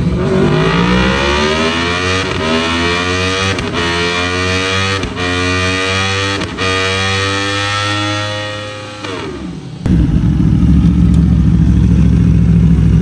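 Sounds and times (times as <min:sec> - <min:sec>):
motorcycle engine at full throttle: 0:00.0 - 0:13.0.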